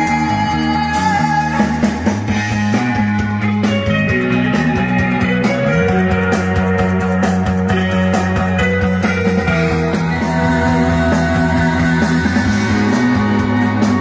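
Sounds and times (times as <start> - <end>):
rock music over loudspeaker: 0.0 - 14.0.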